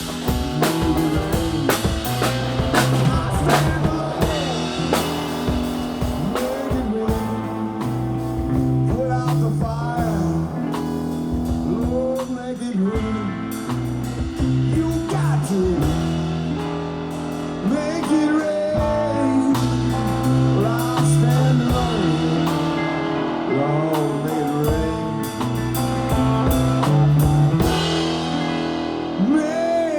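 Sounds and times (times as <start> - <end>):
bass line: 0.0 - 29.9
drums: 0.0 - 29.9
lead guitar bending notes: 0.0 - 29.9.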